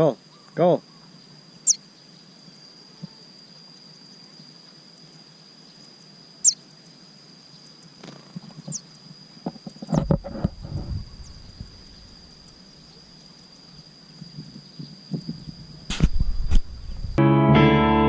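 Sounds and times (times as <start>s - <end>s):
small bird chirping: 0.0s - 9.1s, 10.7s - 17.2s
high-pitched insect whine: 0.0s - 17.2s.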